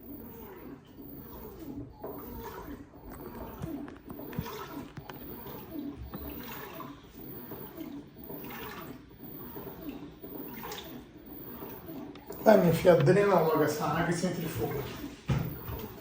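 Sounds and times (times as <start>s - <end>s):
washing machine sloshing water: 0.0s - 16.0s.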